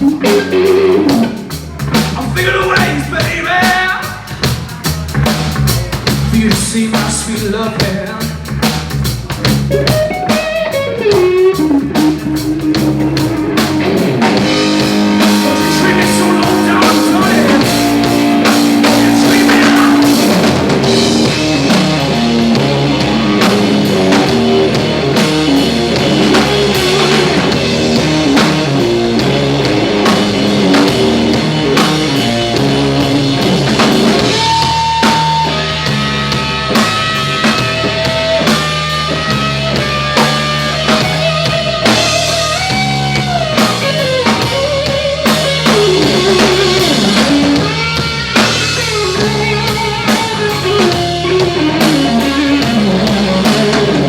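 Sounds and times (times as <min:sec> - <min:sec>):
blues rock band playing: 0:00.0 - 0:54.0
electric guitar lead: 0:00.0 - 0:54.0.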